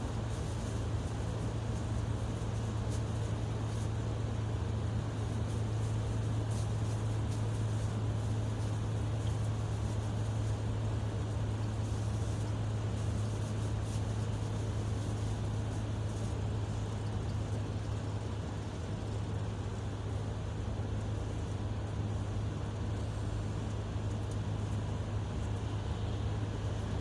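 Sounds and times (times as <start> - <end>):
heavy vehicle engine drone: 0.0 - 27.0.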